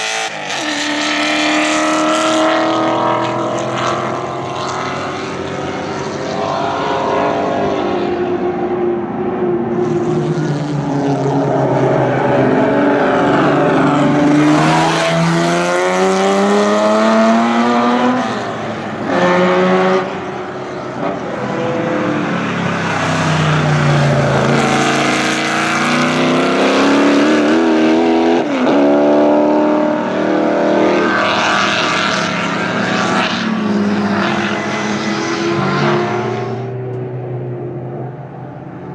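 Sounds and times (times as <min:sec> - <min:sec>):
racing car engines at high revs: 0:00.0 - 0:38.9.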